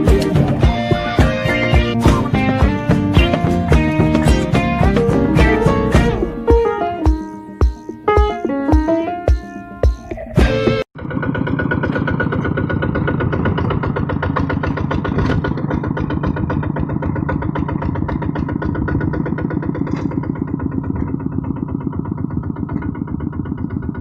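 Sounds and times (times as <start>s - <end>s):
diesel engine running: 0.0s - 6.8s, 10.3s - 24.0s.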